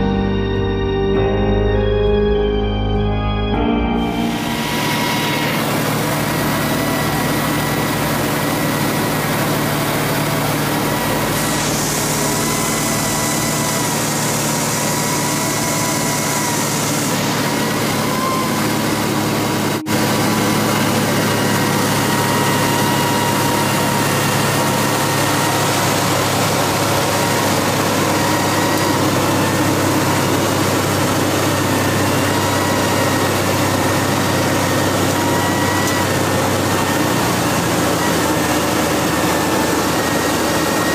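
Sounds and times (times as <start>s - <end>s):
aircraft engine and propeller: 3.5s - 40.9s.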